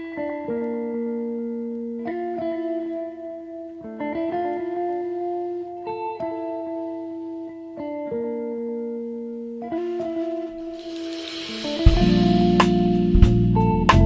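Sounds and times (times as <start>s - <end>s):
background music with held chords: 0.0s - 14.0s.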